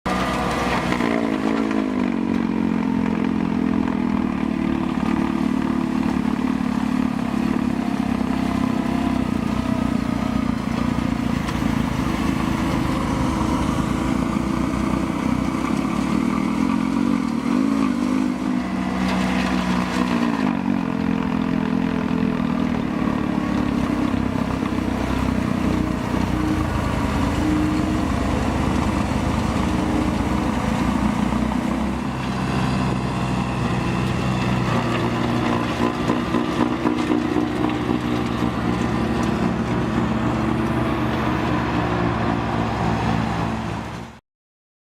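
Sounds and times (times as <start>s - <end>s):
diesel engine running: 0.1s - 44.2s.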